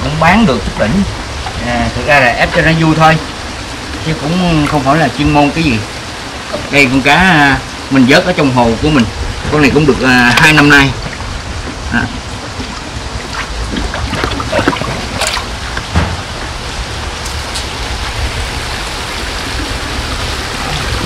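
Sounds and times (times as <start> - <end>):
waterfall splashing: 0.0 - 21.0.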